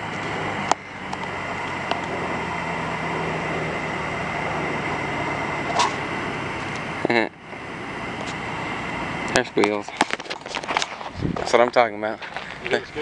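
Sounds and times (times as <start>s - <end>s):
noisy rush: 0.0s - 13.0s
small plane engine humming: 0.0s - 13.0s.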